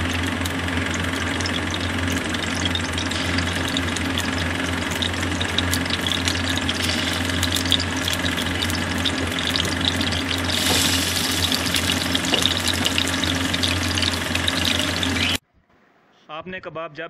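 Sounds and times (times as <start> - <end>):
food sizzling in hot oil: 0.0 - 15.4
low hum: 0.0 - 15.4.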